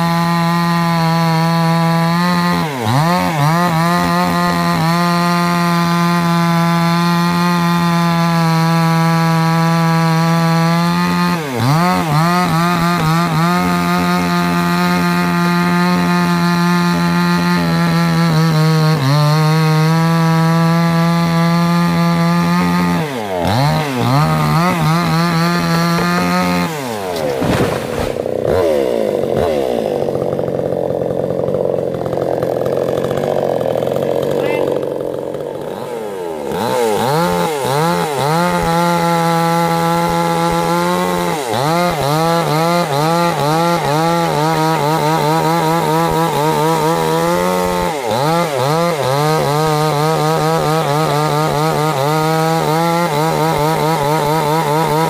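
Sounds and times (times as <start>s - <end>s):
chainsaw cutting through trunk: 0.0s - 55.0s.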